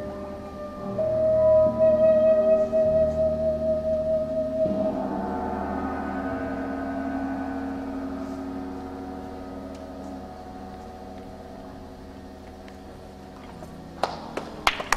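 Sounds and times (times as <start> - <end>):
low steady hum: 0.0 - 14.9
sustained ambient music chord: 0.0 - 14.9.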